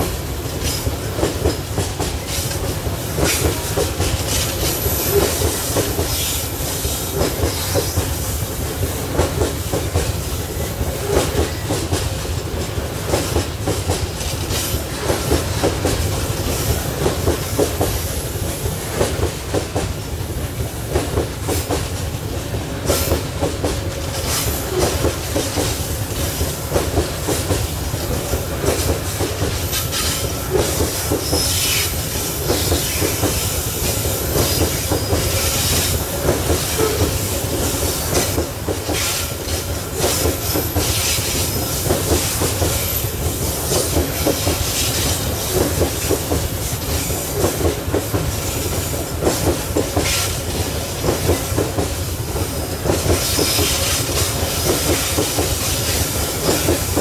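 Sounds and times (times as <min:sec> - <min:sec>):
freight train rumble: 0:00.0 - 0:57.0.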